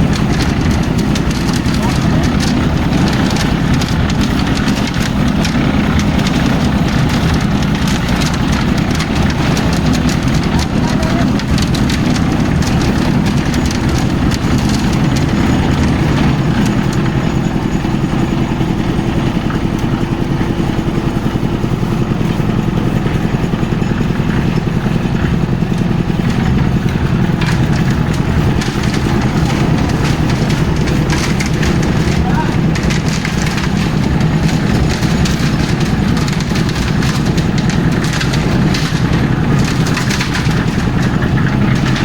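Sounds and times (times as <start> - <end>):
concrete mixer engine droning: 0.0 - 42.0.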